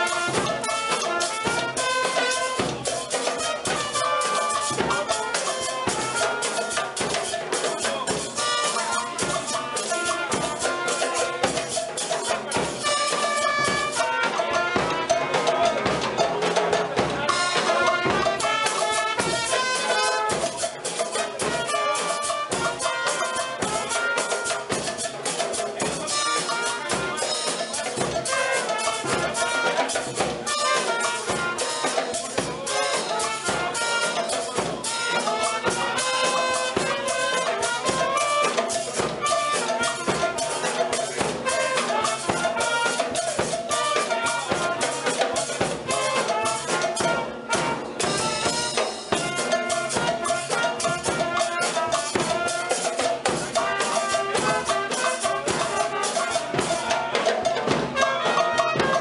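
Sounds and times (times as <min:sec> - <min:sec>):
bass drum beat: 0:00.0 - 0:50.2
brass horn playing a tune: 0:00.0 - 0:59.0
marching tenor drums: 0:00.0 - 0:59.0.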